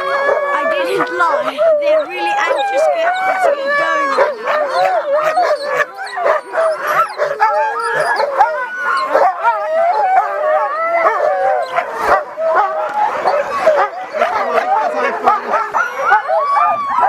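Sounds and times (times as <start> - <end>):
dogs howling and barking: 0.0 - 17.0.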